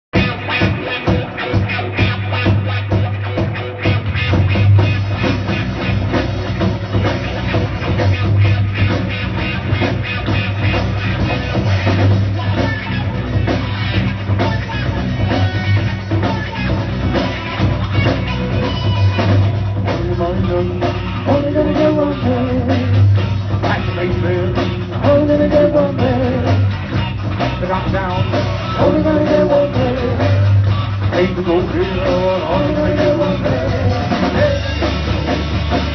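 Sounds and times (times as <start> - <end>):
live rock band playing: 0.1 - 35.9.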